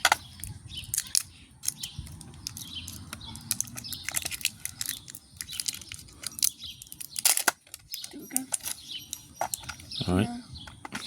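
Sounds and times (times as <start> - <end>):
plastic packaging clicking and crackling: 0.0 - 9.9
birds chirping: 0.0 - 11.0.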